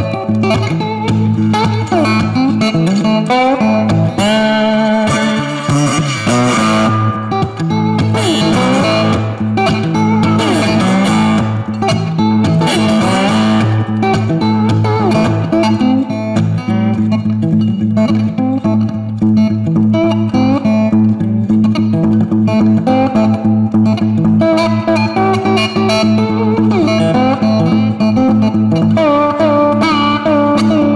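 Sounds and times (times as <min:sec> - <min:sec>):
bass line: 0:00.0 - 0:30.9
electric guitar: 0:00.0 - 0:30.9.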